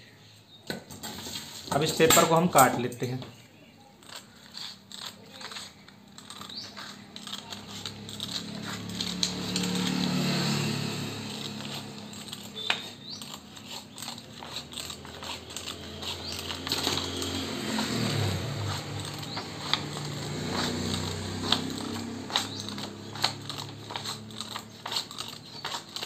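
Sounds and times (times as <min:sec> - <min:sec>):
scissors snipping paper: 0:04.0 - 0:26.0.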